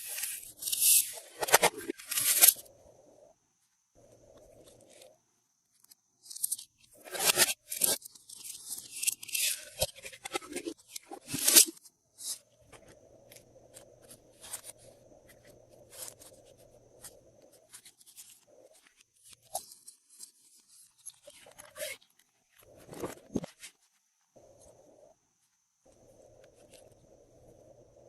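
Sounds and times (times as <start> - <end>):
crunchy crackle: 0.0 - 28.0.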